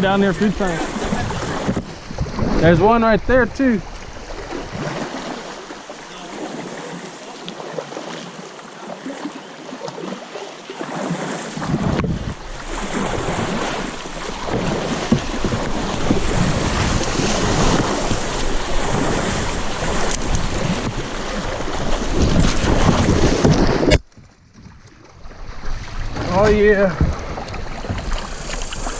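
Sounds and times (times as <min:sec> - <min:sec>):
wind buffeting microphone: 0:00.0 - 0:06.8, 0:11.6 - 0:28.9
river water rushing: 0:00.0 - 0:23.4.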